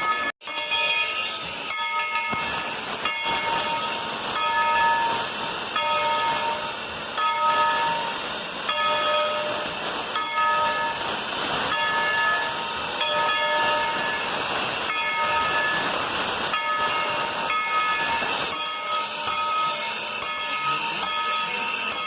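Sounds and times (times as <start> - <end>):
locomotive bell ringing: 0.0 - 22.0
steam locomotive hissing: 0.0 - 22.0.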